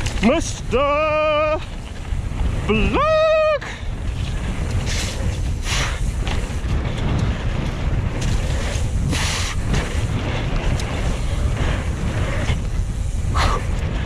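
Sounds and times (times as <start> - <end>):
bike tyres on wet trail: 0.0 - 14.0
wind buffeting microphone: 0.0 - 14.0.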